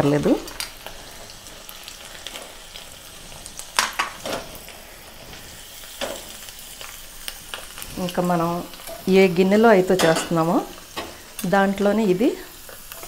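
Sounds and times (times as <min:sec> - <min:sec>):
almonds sizzling in ghee: 0:00.0 - 0:13.0.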